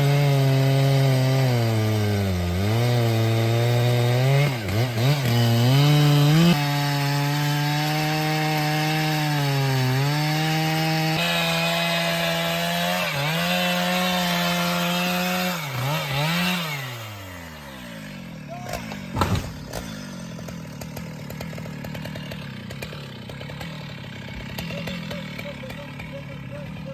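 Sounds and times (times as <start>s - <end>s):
chainsaw running at high revs: 0.0s - 26.9s.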